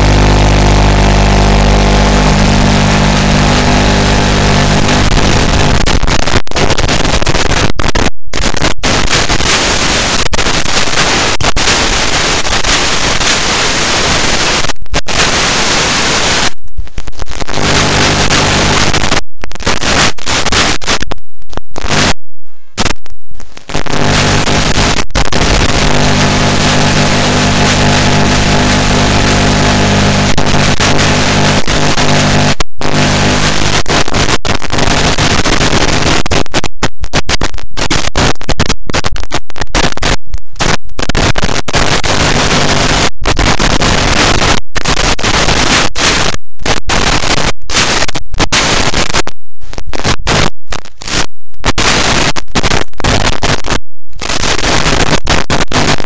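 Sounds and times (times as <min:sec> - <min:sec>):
harsh static hiss: 0:00.0 - 0:56.0.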